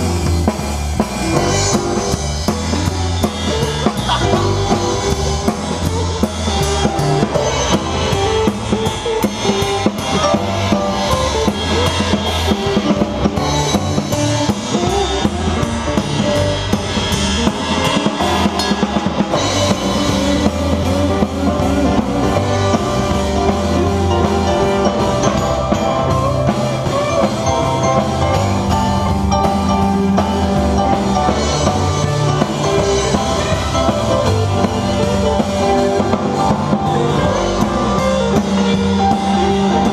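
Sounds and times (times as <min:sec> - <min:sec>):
blues band playing live: 0:00.0 - 0:39.9
drum kit kick and snare: 0:00.0 - 0:39.9.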